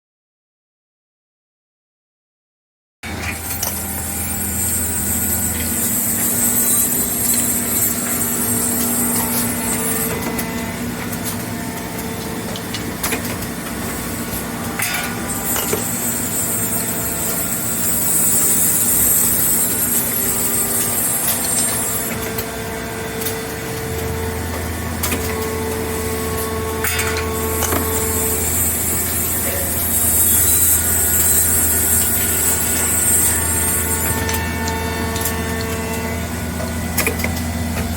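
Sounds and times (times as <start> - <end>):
machine hum: 3.4 - 37.9.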